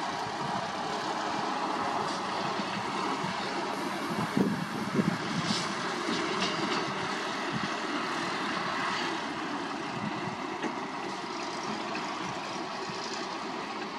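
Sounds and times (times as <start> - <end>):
distant diesel engines running: 0.0 - 13.9.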